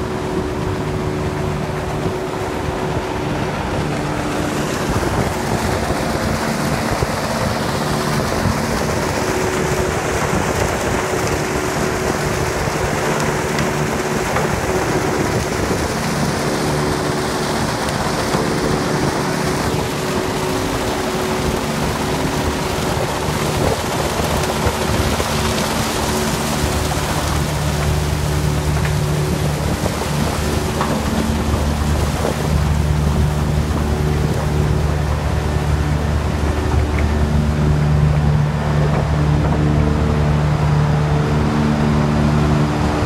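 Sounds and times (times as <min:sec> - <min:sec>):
constant low hum: 0:00.0 - 0:43.0
industrial machinery din: 0:00.0 - 0:43.0.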